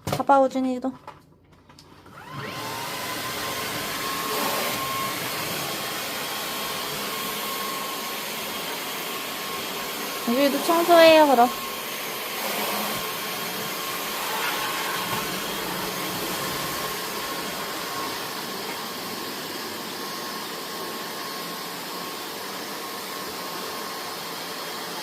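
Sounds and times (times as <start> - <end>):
vacuum cleaner running: 1.9 - 25.0.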